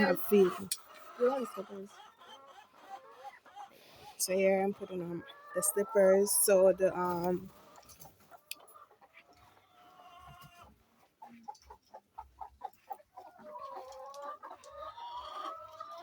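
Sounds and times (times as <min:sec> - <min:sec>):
hens clucking and calling: 0:00.0 - 0:16.0.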